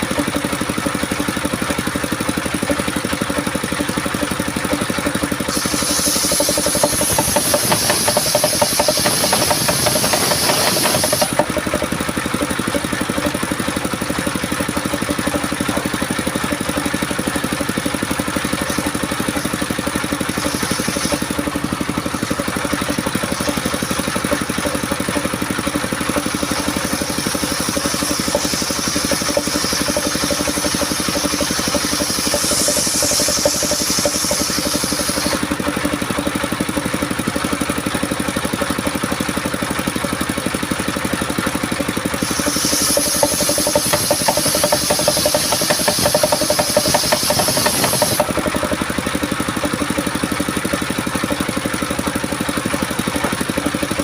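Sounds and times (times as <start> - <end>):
saw blade cutting timber: 0.0 - 38.8, 41.2 - 54.0
sawmill engine running: 0.0 - 54.0.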